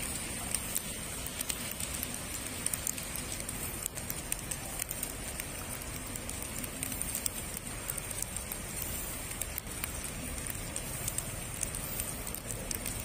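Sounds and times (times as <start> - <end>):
outdoor background hiss: 0.0 - 13.0
scattered crackles and ticks: 0.0 - 13.0.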